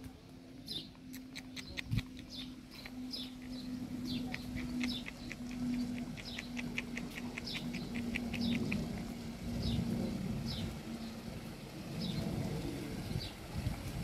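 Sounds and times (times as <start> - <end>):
steady low hum: 0.0 - 14.0
birds chirping: 0.1 - 13.5.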